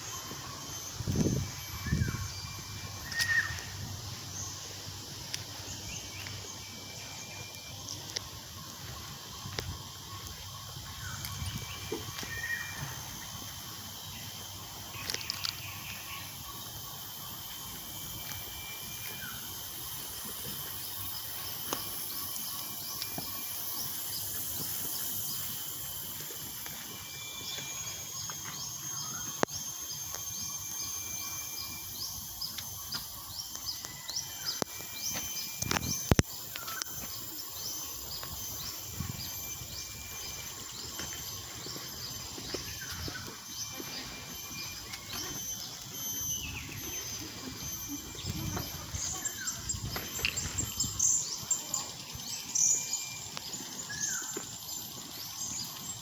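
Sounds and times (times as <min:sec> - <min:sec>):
bird calls and chirps: 0:00.0 - 0:56.0
insect drone: 0:00.0 - 0:56.0.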